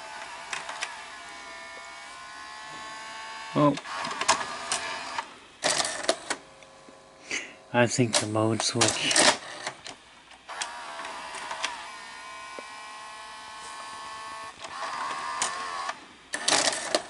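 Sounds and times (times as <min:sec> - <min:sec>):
loading motor whine: 0:00.0 - 0:17.0.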